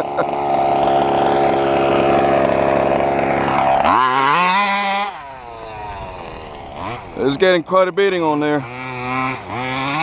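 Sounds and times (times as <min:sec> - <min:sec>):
two-stroke engine at high revs: 0:00.0 - 0:10.0.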